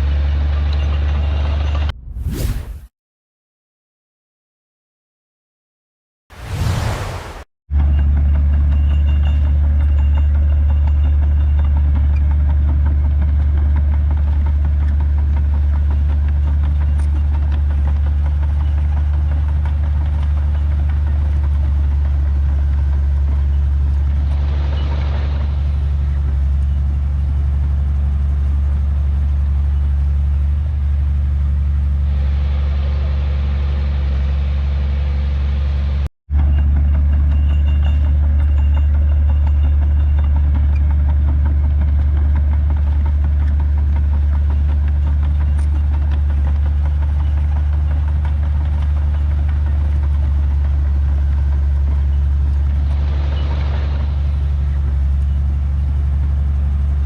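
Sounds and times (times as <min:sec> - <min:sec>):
heavy diesel engine humming: 0:07.8 - 0:57.0.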